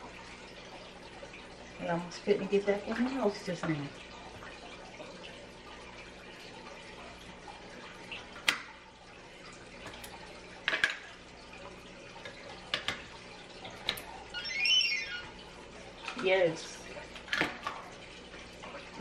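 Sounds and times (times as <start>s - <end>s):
fish tank water trickling: 0.0s - 19.0s.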